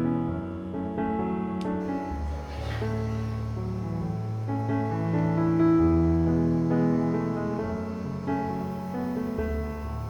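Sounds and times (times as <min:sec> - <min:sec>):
soft piano notes: 0:00.0 - 0:10.0.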